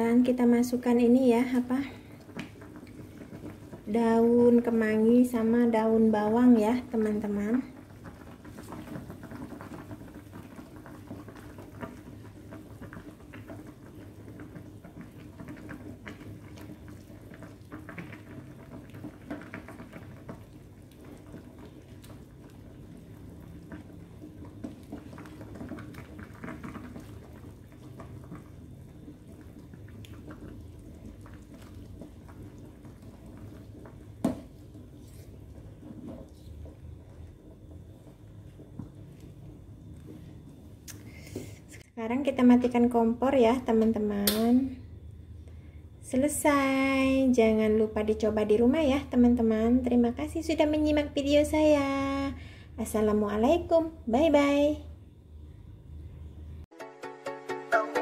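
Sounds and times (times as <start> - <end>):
soup bubbling in a pot: 0.0 - 56.7.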